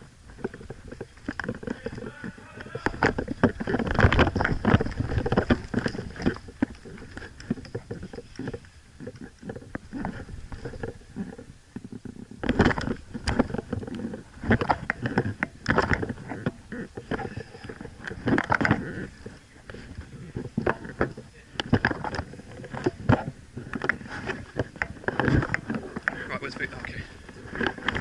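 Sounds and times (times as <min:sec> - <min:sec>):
gear handling and rubbing: 0:00.0 - 0:28.0.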